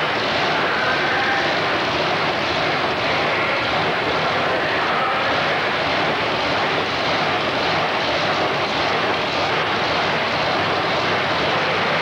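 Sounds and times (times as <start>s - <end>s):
tractor engines droning: 0.0s - 12.0s.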